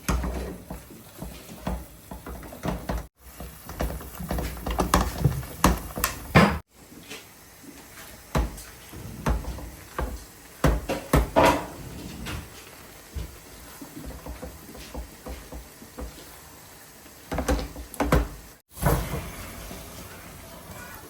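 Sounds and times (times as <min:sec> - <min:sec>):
cupboard doors and utensils clattering: 0:00.0 - 0:16.3, 0:17.2 - 0:20.5.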